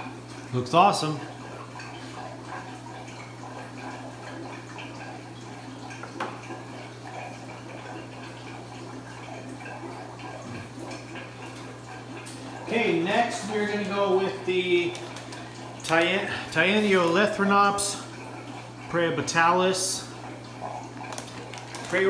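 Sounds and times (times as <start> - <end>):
low equipment hum: 0.0 - 22.0
water trickling and dripping: 0.0 - 22.0.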